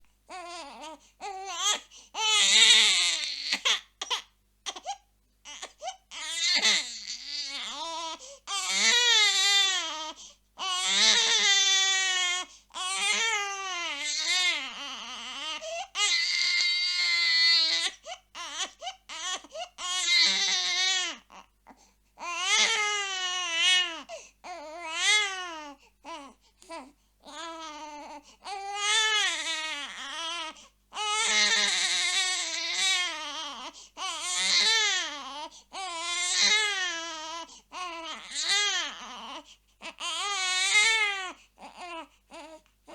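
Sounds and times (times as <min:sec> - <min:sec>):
infant crying: 0:00.3 - 0:42.9.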